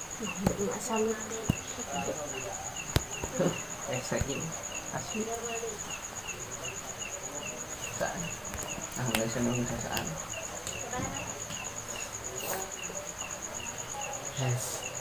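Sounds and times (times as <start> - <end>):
insects trilling and chirping: 0.0 - 15.0.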